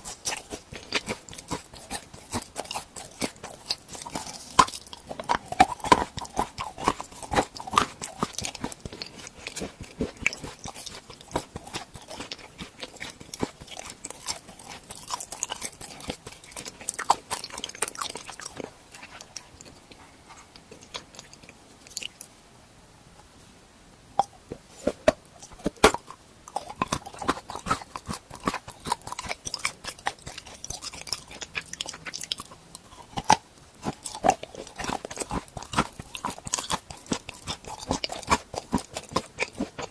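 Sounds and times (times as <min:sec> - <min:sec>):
crunchy chewing of sweets: 0:00.0 - 0:22.5, 0:24.2 - 0:39.9.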